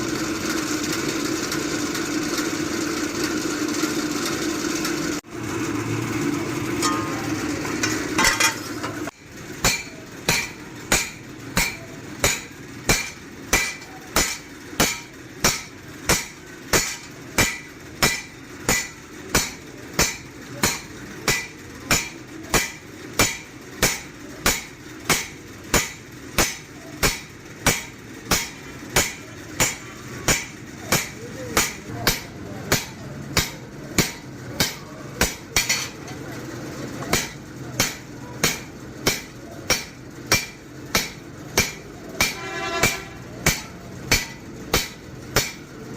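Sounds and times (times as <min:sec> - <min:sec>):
hammer striking metal on anvil: 0:06.8 - 0:36.2, 0:37.0 - 0:45.8.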